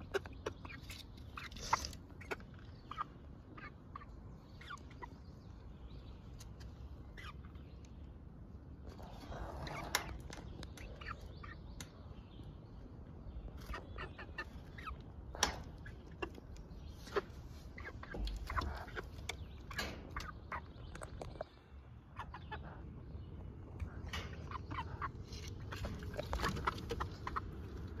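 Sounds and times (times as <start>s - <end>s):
hens clucking: 0.0s - 7.6s, 8.8s - 12.2s, 13.4s - 28.0s.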